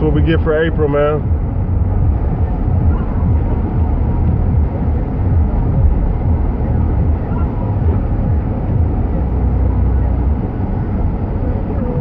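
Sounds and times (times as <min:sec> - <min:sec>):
car engine: 0:00.0 - 0:12.0
road noise: 0:00.0 - 0:12.0.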